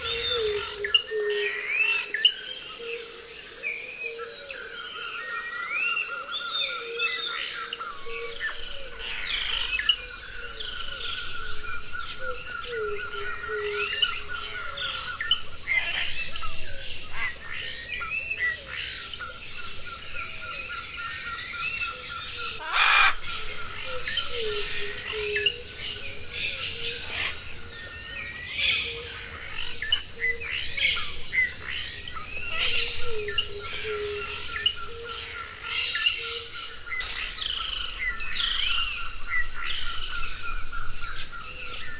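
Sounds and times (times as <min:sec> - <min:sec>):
birds chirping and calling: 0:00.0 - 0:41.9.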